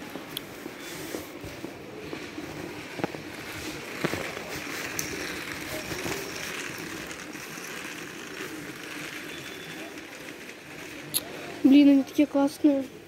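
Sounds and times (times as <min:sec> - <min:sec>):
indistinct store murmur: 0:00.0 - 0:13.0.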